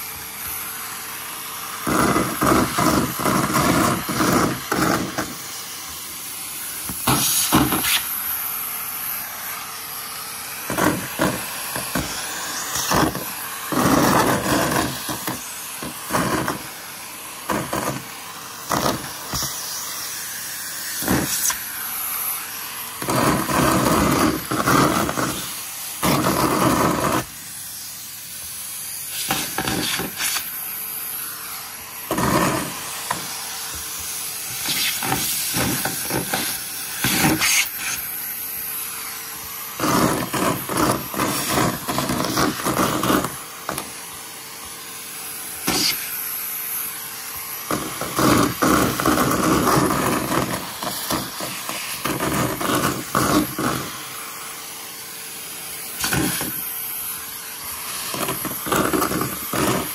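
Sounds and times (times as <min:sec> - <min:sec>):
vacuum cleaner suction hiss: 0:00.0 - 0:59.9.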